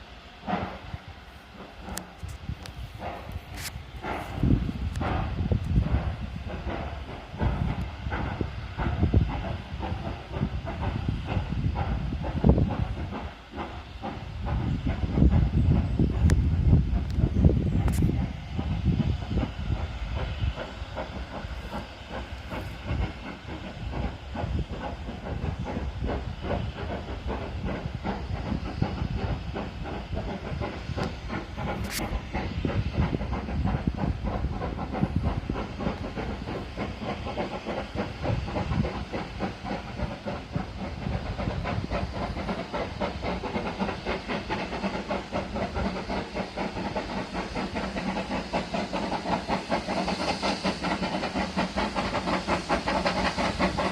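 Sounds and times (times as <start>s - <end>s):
steam hissing: 0.0s - 53.9s
steam locomotive exhaust beats: 0.0s - 53.9s.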